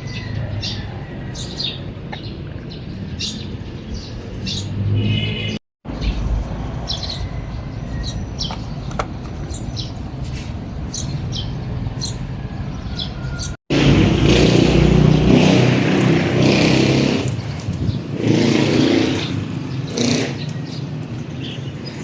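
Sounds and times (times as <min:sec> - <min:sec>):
birds chirping: 0:00.0 - 0:13.6, 0:14.2 - 0:22.0
close vehicle engine noise: 0:00.0 - 0:22.0
low traffic rumble: 0:00.0 - 0:22.0.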